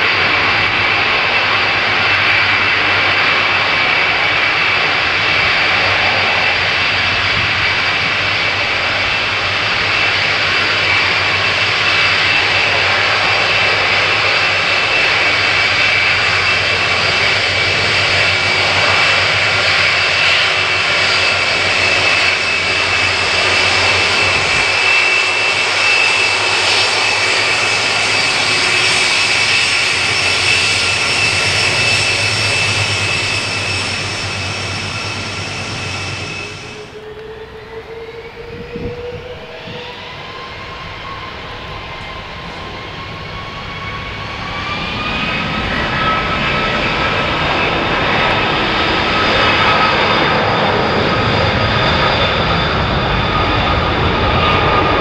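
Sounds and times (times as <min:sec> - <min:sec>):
high engine whine: 0:00.0 - 0:55.0
jet engines running: 0:00.0 - 0:55.0.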